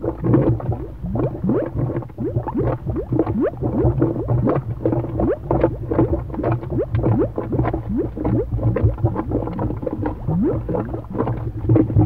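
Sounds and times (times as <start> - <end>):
cartoon bubbles popping: 0.0 - 12.0.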